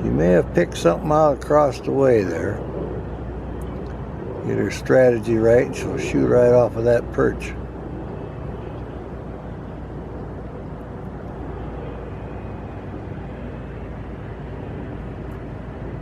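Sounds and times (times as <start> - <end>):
distant mechanical rumble: 0.0 - 16.0.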